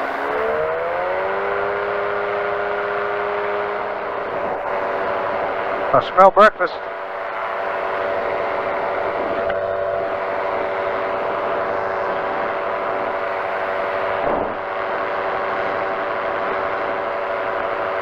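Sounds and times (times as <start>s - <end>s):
engine and propeller drone: 0.0s - 18.0s.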